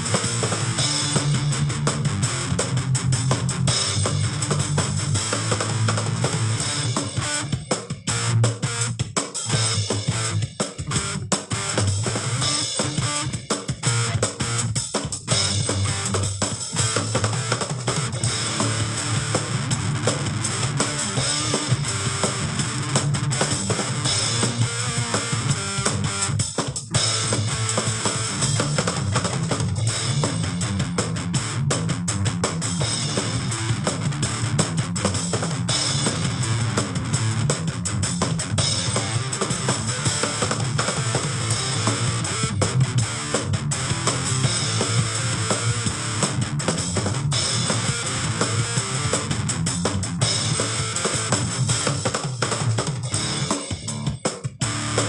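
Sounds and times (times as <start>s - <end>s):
bass guitar: 0.0s - 55.0s
drums: 0.0s - 55.0s
electric guitar riffs: 0.0s - 55.0s.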